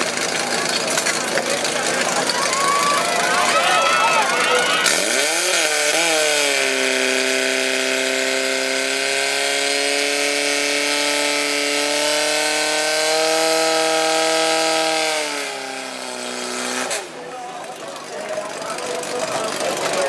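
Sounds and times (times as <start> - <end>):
small pump engine running: 0.0 - 20.0.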